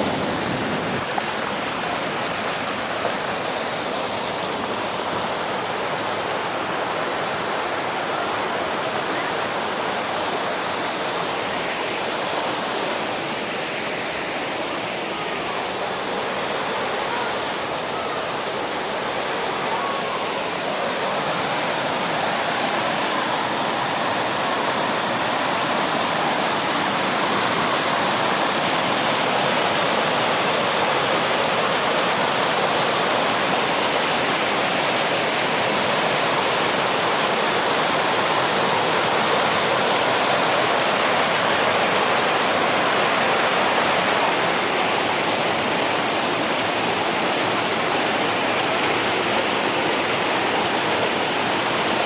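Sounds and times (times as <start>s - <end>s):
rushing creek water: 0.0s - 52.0s.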